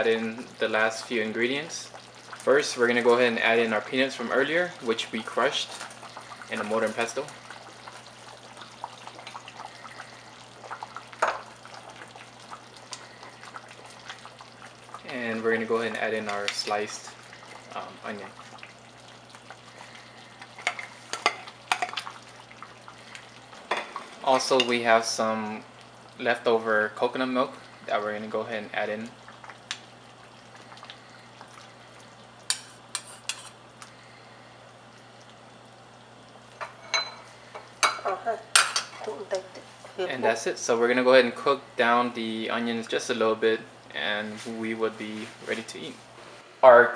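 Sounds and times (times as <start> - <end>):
soup simmering and bubbling: 0.0 - 46.6.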